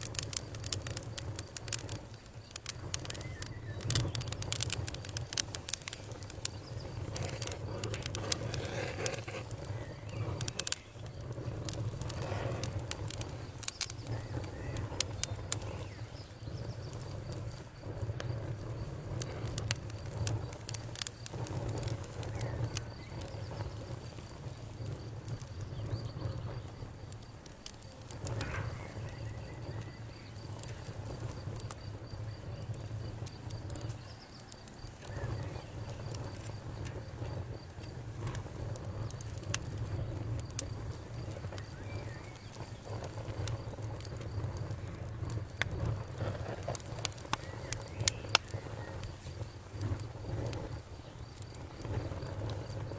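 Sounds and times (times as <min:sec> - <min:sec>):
low rumble of flames: 0:00.0 - 0:52.9
wood crackling and popping: 0:00.0 - 0:52.9.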